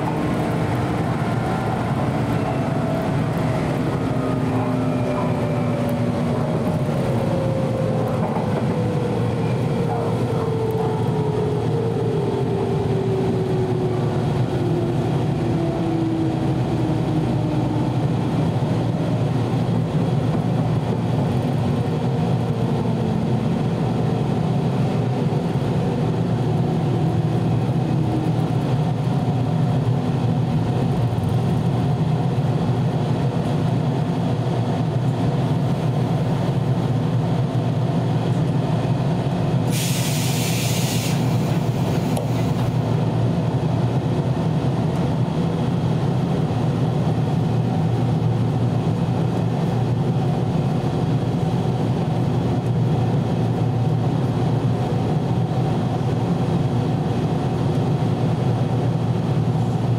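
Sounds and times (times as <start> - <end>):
low train running rumble: 0.0 - 59.9
train motor and gear whine: 0.0 - 59.9.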